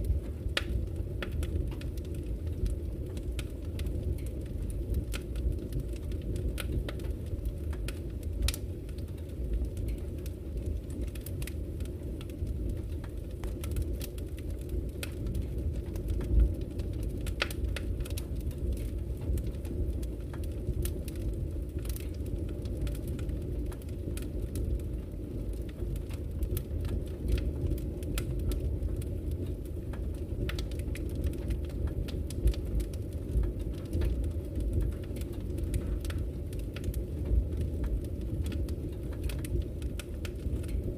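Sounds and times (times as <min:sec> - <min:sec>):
fire flames rumbling: 0:00.0 - 0:40.9
wood fire crackling and popping: 0:00.0 - 0:40.9.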